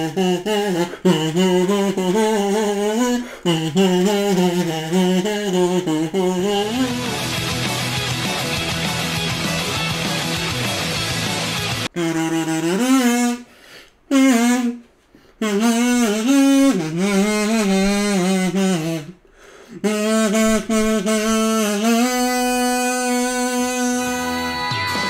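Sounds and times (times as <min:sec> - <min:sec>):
kazoo melody: 0:00.0 - 0:25.0.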